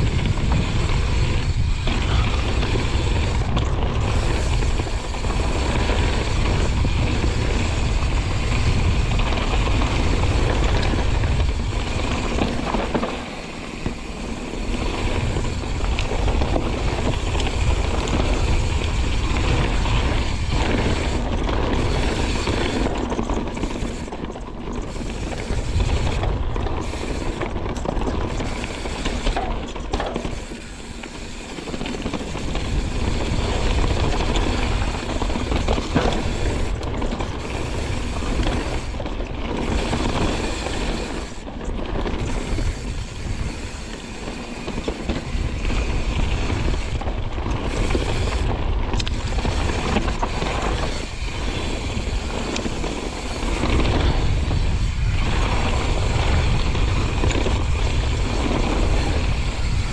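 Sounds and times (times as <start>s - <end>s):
bike rattling and clicking: 0.0s - 59.9s
tyre roar on dirt: 0.0s - 59.9s
wind buffeting microphone: 0.0s - 59.9s.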